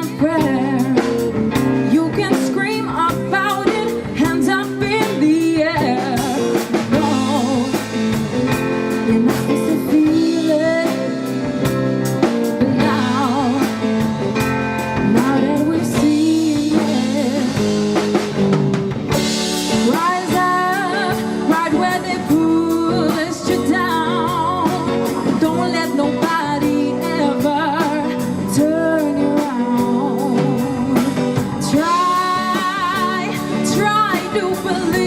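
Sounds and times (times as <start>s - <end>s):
person singing with vibrato: 0.0s - 11.6s, 12.5s - 14.3s, 14.9s - 18.0s, 19.6s - 35.0s
live pop-rock band: 0.0s - 35.0s.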